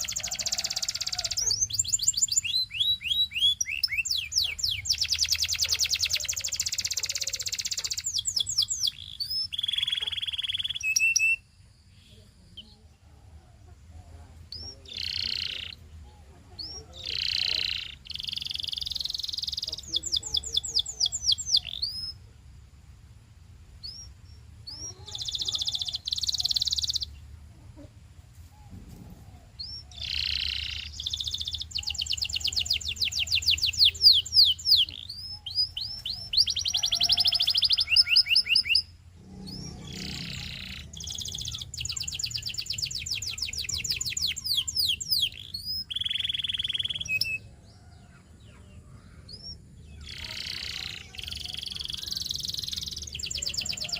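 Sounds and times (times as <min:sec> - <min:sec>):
canary singing trills: 0:00.0 - 0:22.4, 0:23.8 - 0:27.9, 0:28.6 - 0:53.9.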